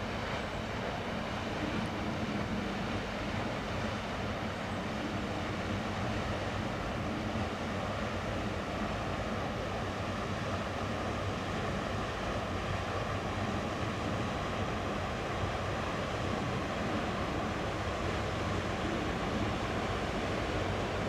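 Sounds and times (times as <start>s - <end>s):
water washing along hull: 0.0s - 21.0s.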